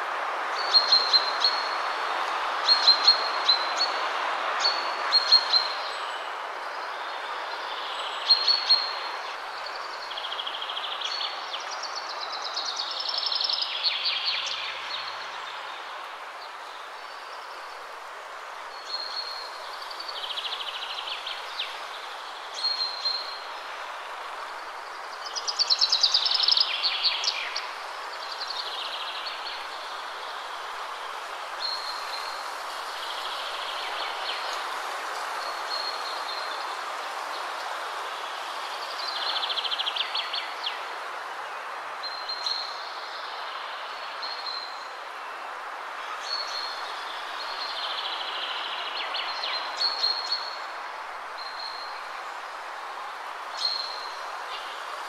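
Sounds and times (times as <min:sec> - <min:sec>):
hiss-like background: 0:00.0 - 0:55.0.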